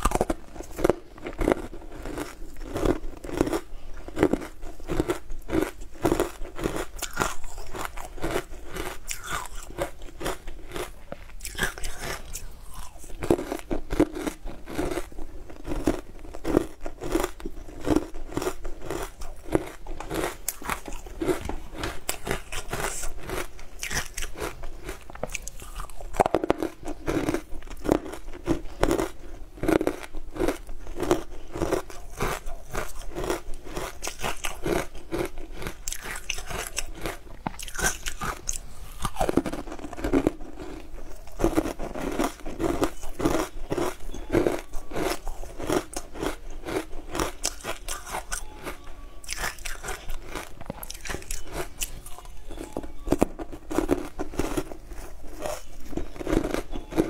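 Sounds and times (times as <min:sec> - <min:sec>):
crisp crunches of chewing frozen food: 0:00.0 - 0:57.0.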